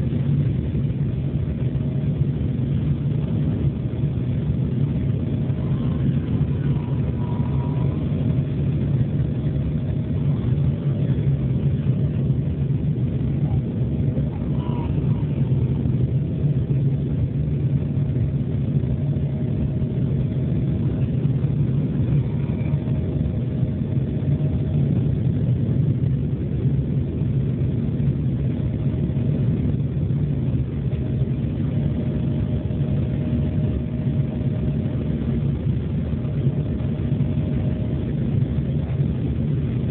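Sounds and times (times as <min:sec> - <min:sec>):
faint steady hum: 0:00.0 - 0:39.9
jet engines droning in flight: 0:00.0 - 0:39.9.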